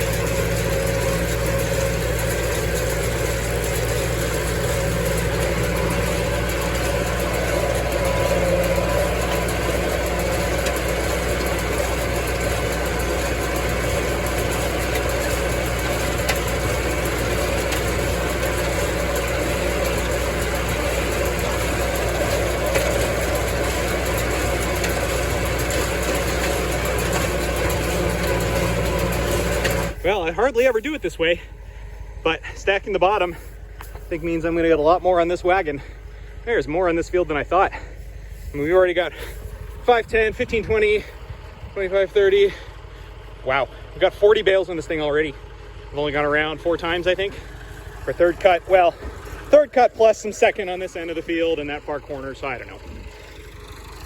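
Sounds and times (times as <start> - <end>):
baler working: 0.0 - 54.0
tractor engine running: 0.0 - 54.0.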